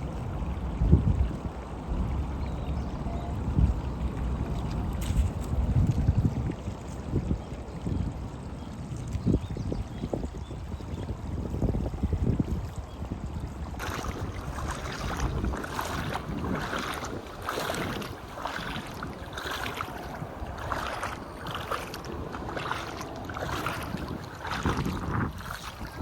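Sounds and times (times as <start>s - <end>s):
river water splashing: 0.0s - 9.4s, 10.6s - 26.0s
wind rumble on microphone: 0.0s - 26.0s.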